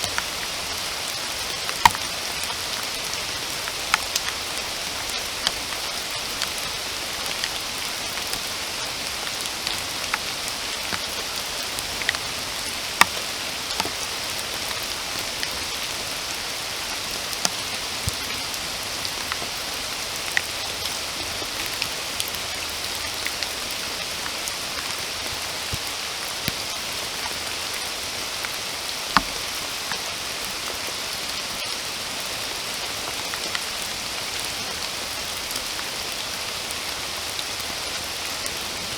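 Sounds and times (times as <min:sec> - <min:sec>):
raindrops clicking close by: 0:00.0 - 0:38.9
steady rain hiss: 0:00.0 - 0:38.9.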